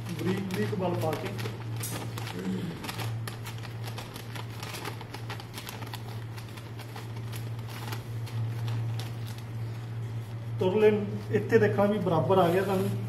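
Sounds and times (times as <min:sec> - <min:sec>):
cloth rustling: 0:00.0 - 0:11.4.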